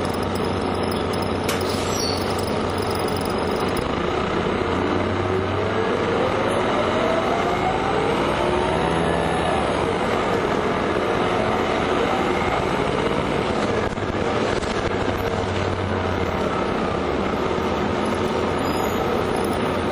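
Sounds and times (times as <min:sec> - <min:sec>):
bus engine and road noise: 0:03.8 - 0:19.9.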